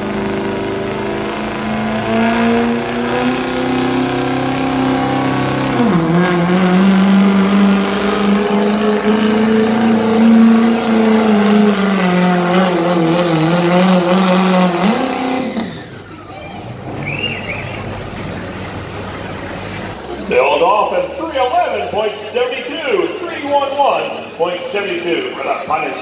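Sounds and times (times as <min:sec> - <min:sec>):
diesel engine at full throttle: 0:00.0 - 0:25.4.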